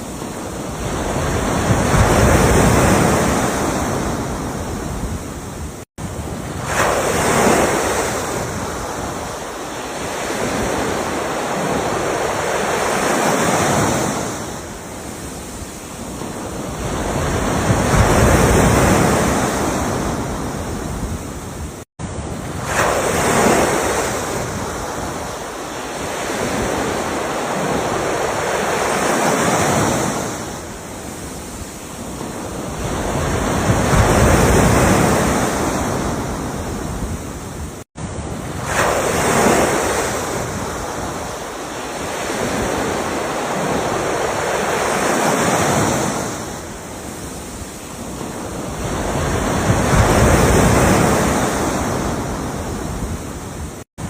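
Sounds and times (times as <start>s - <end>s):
ocean waves washing in: 0.0s - 53.9s.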